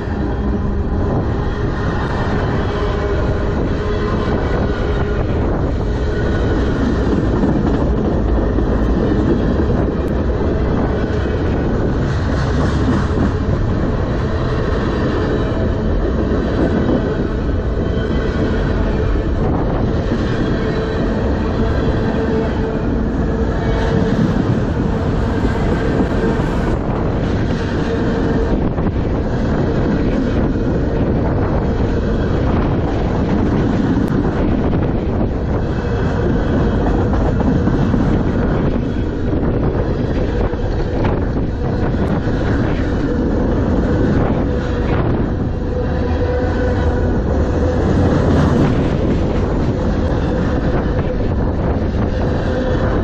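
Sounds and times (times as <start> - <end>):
freight train rumbling past: 0.0 - 53.0
rush of wind: 0.0 - 53.0.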